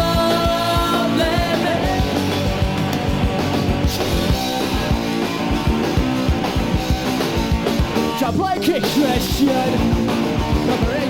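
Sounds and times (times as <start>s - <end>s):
bass guitar: 0.0s - 11.0s
electric guitar: 0.0s - 11.0s
fast driving drum beat: 0.0s - 11.0s.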